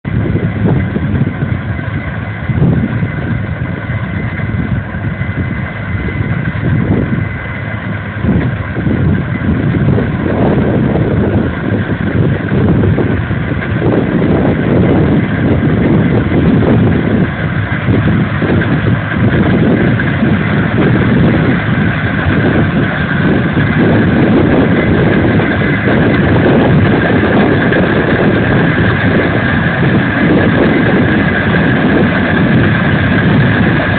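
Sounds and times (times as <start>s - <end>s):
combine harvester drone: 0.0s - 33.9s
high machine whine: 0.0s - 33.9s.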